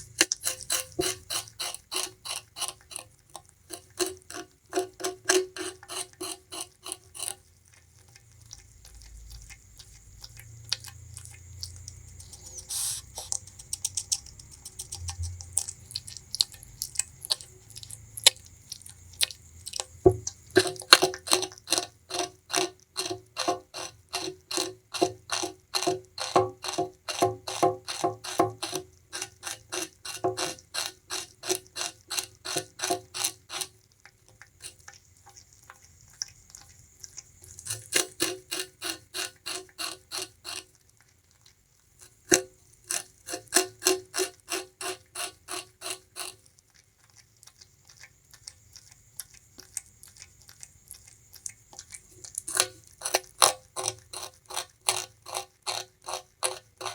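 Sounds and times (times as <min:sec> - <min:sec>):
rodent gnawing sugarcane: 0:00.0 - 0:56.9.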